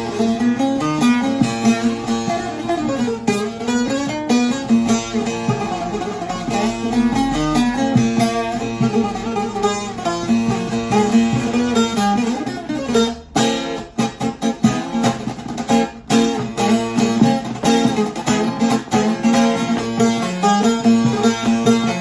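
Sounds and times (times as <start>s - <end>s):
plucked saz folk melody: 0.0s - 22.0s.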